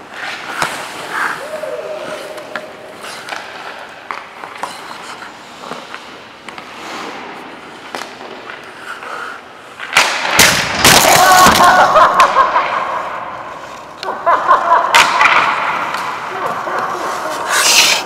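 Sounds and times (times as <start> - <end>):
skates scraping ice: 0.0 - 18.0
sticks and pucks clacking: 0.0 - 18.0.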